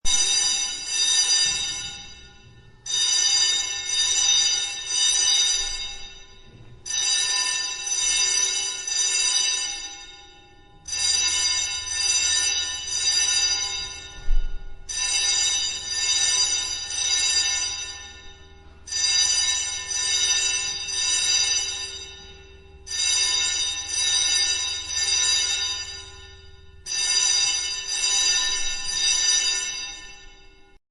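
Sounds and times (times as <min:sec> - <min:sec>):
fire alarm ringing: 0:00.0 - 0:30.8.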